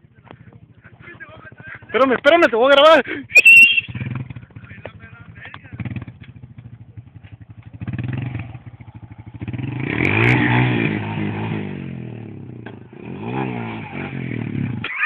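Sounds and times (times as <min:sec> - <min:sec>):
quad bike engine under throttle: 0:00.0 - 0:15.0.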